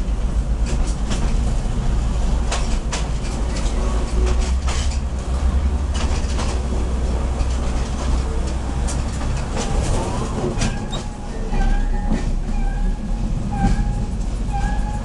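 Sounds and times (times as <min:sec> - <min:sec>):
diesel train engine rumble: 0:00.0 - 0:15.0
train wheels clicking over rail joints: 0:00.0 - 0:15.0.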